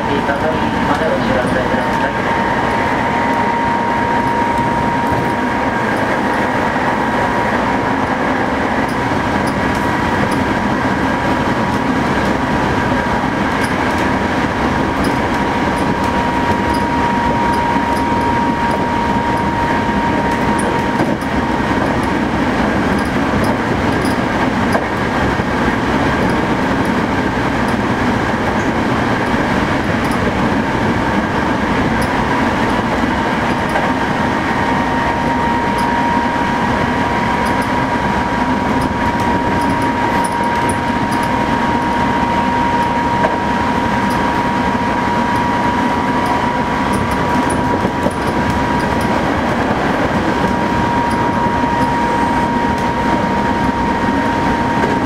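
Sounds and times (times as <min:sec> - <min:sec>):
train wheels rolling on rail: 0:00.0 - 0:55.0.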